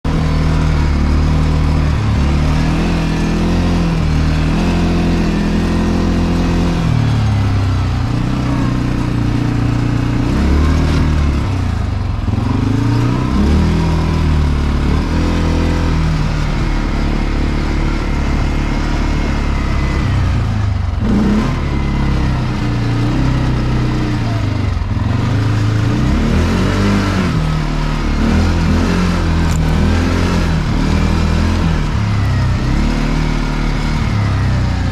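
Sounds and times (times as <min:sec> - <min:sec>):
quad bike engine revving: 0:00.1 - 0:34.9.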